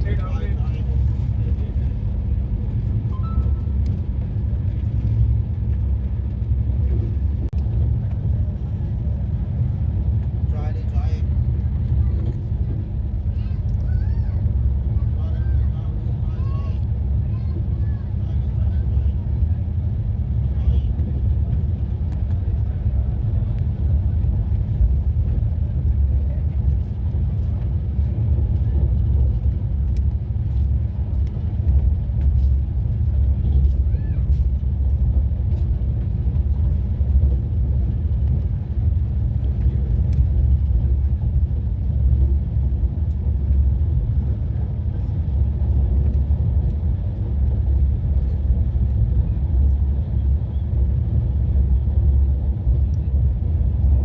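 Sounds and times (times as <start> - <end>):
passenger train rumbling: 0.0 - 54.0.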